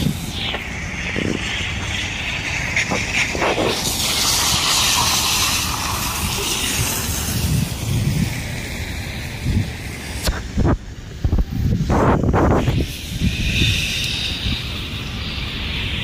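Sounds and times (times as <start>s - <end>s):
hiss: 0.0s - 16.0s
wind rumble on microphone: 0.0s - 16.0s.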